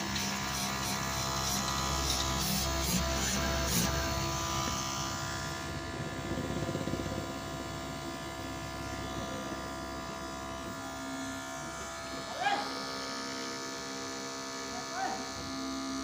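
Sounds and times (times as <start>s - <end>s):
small motor blower humming: 0.0s - 16.0s.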